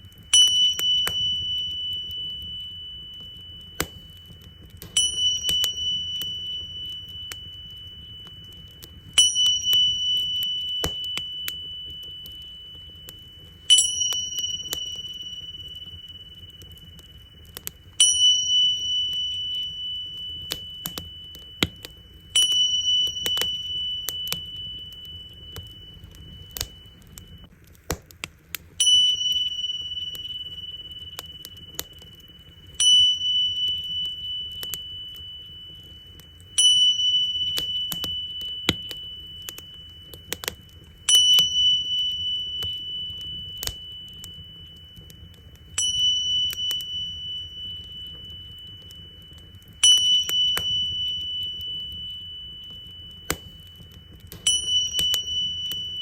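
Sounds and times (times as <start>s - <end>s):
tingsha cymbals ringing: 0.0s - 27.5s, 28.8s - 56.0s
wood fire crackling: 0.0s - 56.0s.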